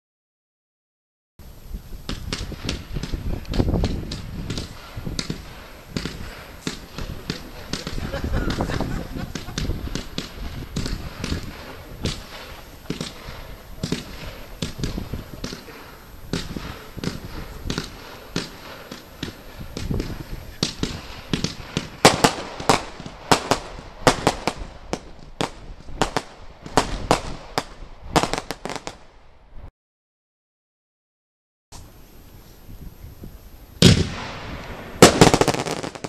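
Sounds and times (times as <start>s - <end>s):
fireworks firing shots: 2.0s - 29.2s, 33.8s - 36.0s.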